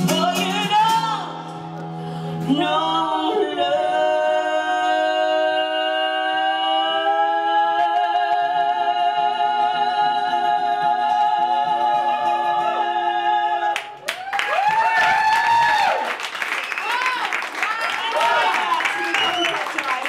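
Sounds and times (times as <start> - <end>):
acoustic guitar: 0.0 - 16.2.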